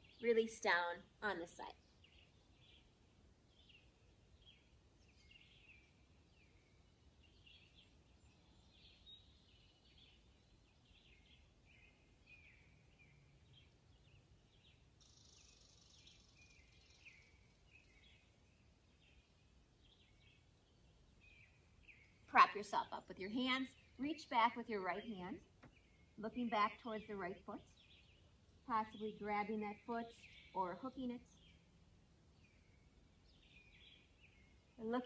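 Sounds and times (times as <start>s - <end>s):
faint songbird chirps: 0.0s - 35.0s.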